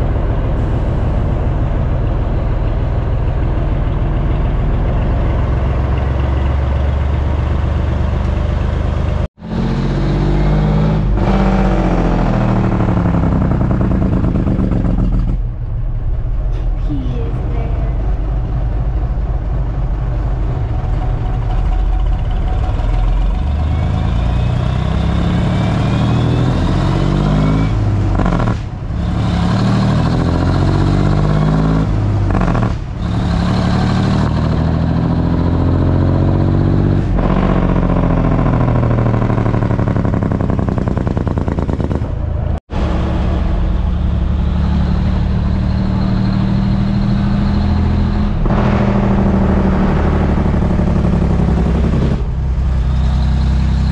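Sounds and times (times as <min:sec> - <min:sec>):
truck diesel engine accelerating: 0:00.0 - 0:53.9.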